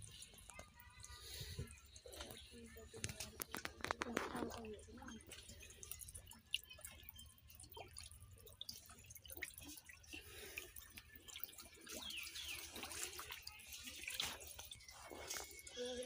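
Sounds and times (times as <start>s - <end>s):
water dripping and splashing in tub: 0.0s - 16.0s.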